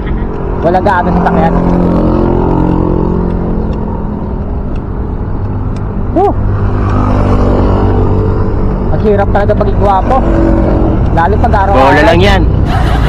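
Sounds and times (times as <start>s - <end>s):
motorcycle engines humming: 0.0s - 13.0s
road traffic: 0.0s - 13.0s.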